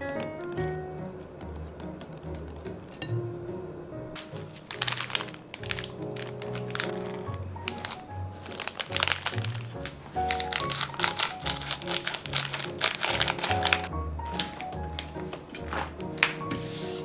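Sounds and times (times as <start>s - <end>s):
scissors snipping plastic film: 0.0s - 3.1s, 4.2s - 16.4s
background music: 0.0s - 17.0s.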